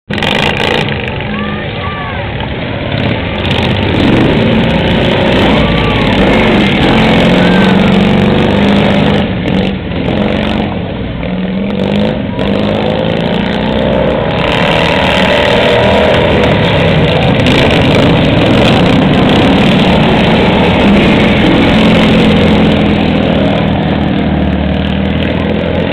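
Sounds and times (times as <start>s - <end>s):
racing lawn tractor engines: 0.1s - 25.9s.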